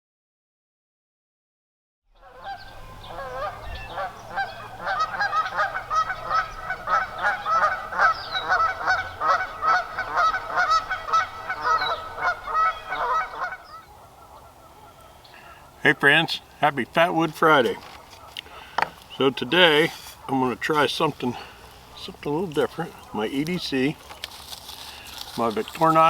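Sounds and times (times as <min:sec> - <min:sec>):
many birds calling: 0:02.2 - 0:26.0.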